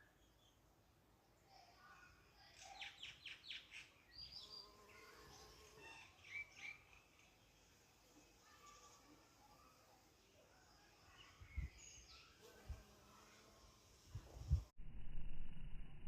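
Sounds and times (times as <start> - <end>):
songbird singing faintly: 0.0 - 14.4.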